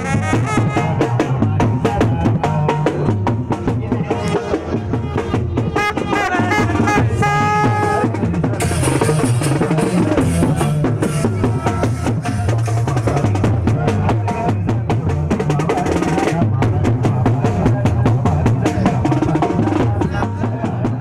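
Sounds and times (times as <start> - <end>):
deep bass: 0.0 - 21.0
man singing into microphone: 0.0 - 21.0
snare drums fast rhythm: 0.0 - 21.0.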